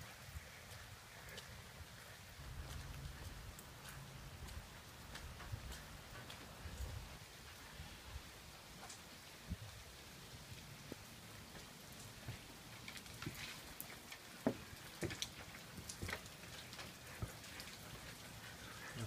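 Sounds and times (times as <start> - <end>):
light rain hiss: 0.0 - 19.0
raindrops tapping: 0.6 - 7.3, 8.7 - 19.0.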